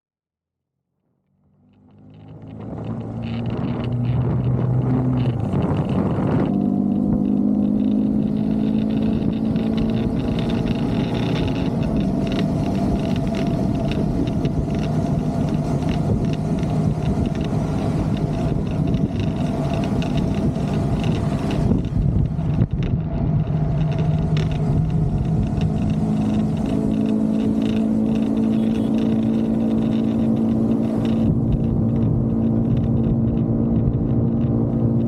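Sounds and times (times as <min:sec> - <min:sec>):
motorcycle engine running: 0:01.4 - 0:35.0
wind rushing over microphone: 0:02.0 - 0:35.0.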